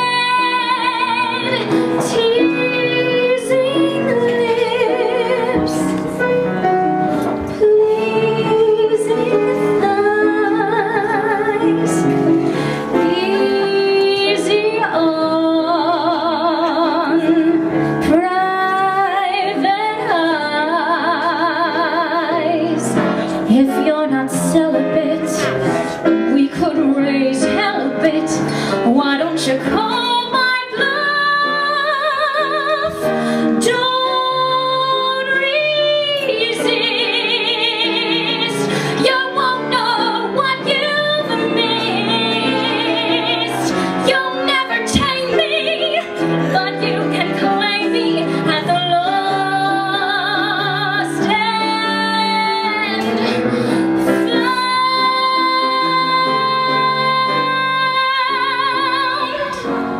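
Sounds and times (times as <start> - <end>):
woman singing with vibrato: 0.0 - 6.1, 7.4 - 59.9
piano accompaniment: 0.0 - 59.9.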